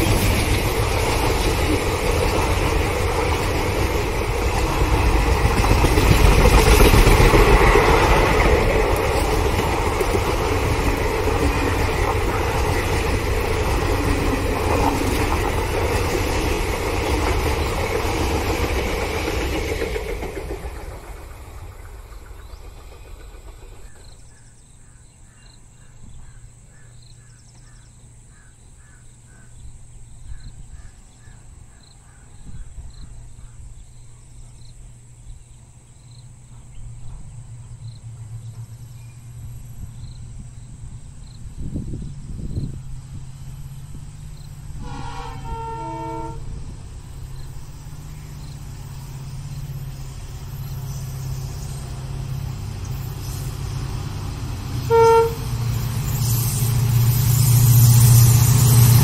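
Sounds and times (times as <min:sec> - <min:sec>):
passenger train rolling past: 0:00.0 - 0:26.6, 0:30.1 - 0:59.0
insects chirping: 0:00.0 - 0:59.0.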